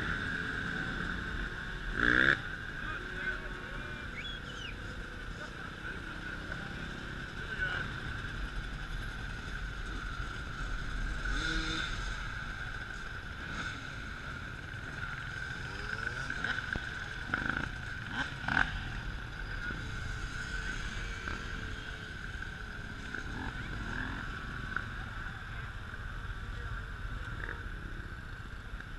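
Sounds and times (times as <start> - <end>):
dirt bike engines revving: 0.0 - 28.9.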